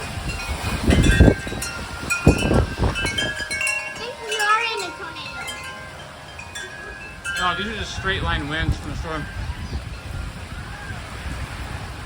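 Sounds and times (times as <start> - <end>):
wind chimes clanging: 0.0 - 11.2
heavy wind gusts: 0.0 - 12.0.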